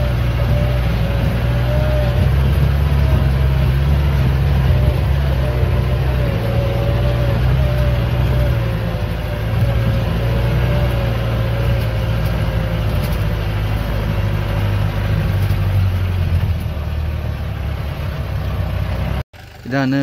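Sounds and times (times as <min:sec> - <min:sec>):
jeep engine running: 0:00.0 - 0:20.0.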